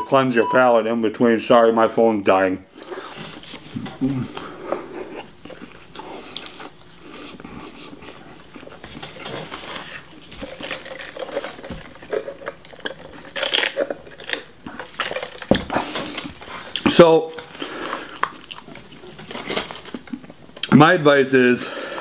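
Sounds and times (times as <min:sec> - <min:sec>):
person chewing food: 0:02.8 - 0:20.7.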